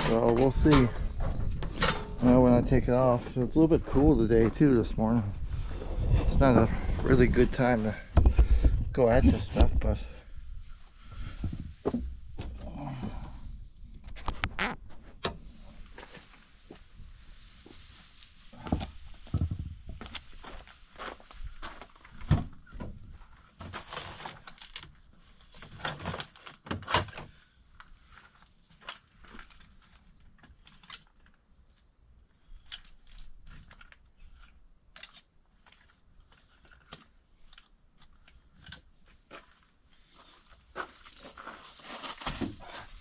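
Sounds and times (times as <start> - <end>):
rustling and crinkling: 0.0 - 10.0, 13.9 - 43.0.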